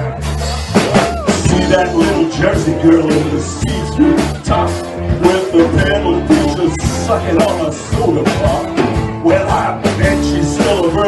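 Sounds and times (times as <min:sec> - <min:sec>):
bass guitar: 0:00.0 - 0:11.0
drum kit: 0:00.0 - 0:11.0
man singing: 0:01.0 - 0:11.0.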